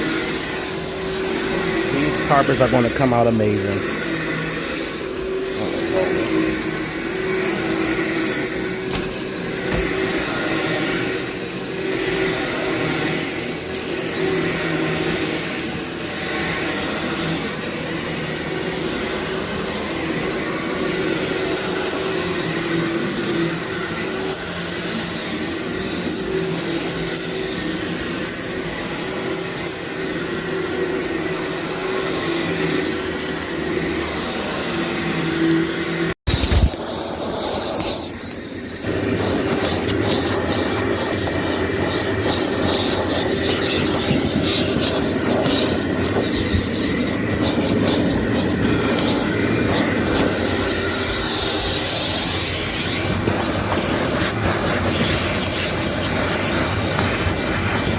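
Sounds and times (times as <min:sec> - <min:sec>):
vacuum cleaner on carpet: 0:00.0 - 0:57.9.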